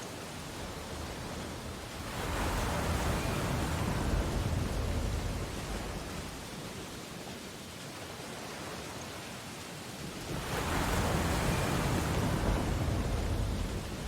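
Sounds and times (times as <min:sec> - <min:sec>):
ocean surf waves: 0:00.0 - 0:14.0.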